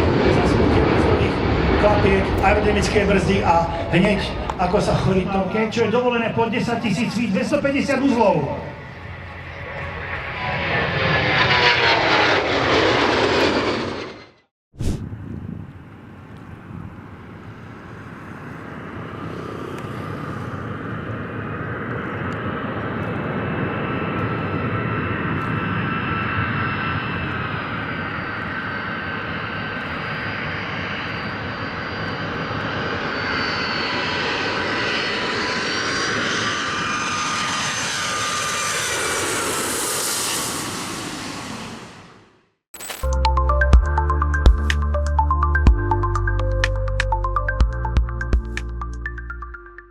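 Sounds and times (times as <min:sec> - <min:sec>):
jet engines roaring: 0:00.0 - 0:14.4, 0:15.1 - 0:43.0.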